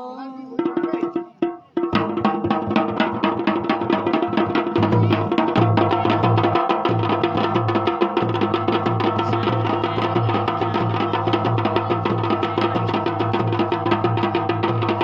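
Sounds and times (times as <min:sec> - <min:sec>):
drums in fast rhythm: 0:00.4 - 0:15.0.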